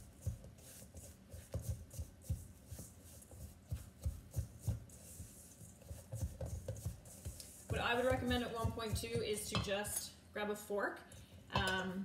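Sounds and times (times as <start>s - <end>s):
spatula mashing and scraping: 0.0s - 10.1s.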